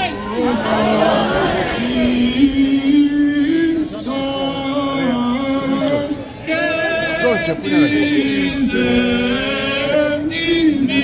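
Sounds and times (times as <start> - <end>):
voices singing a hymn: 0.0 - 11.0.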